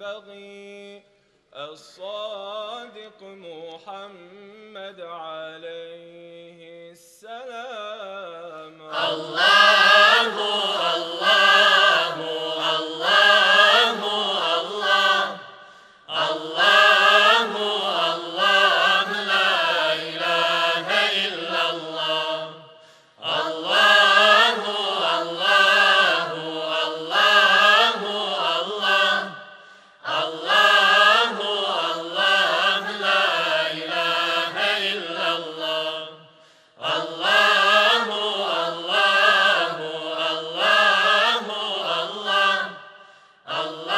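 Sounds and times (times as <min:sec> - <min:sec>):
male vocal group singing: 0:07.2 - 0:43.9.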